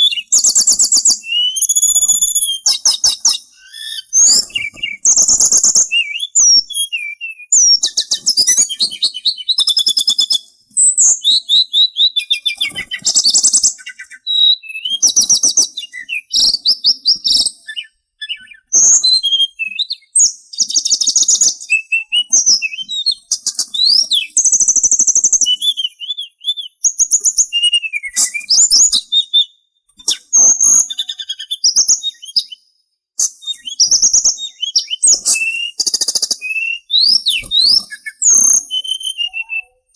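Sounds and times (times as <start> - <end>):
songbird trilling and whistling: 0.0 - 39.9.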